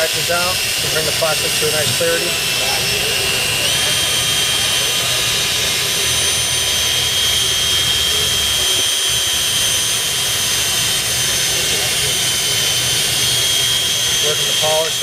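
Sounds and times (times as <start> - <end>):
electric drill motor whine: 0.0 - 15.0.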